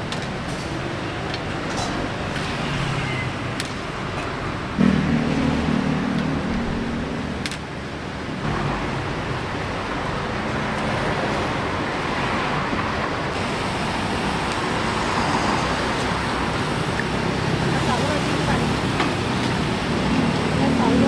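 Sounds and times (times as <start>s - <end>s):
road traffic rush: 0.0s - 21.0s.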